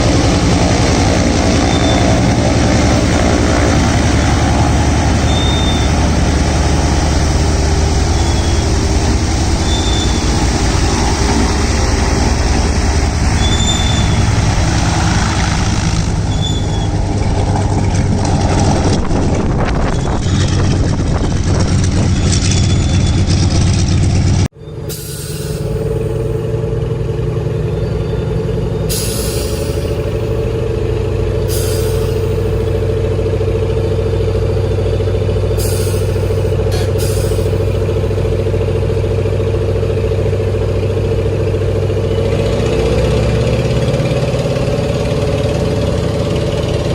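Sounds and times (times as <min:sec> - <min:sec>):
radial engine running: 0:00.0 - 0:46.9.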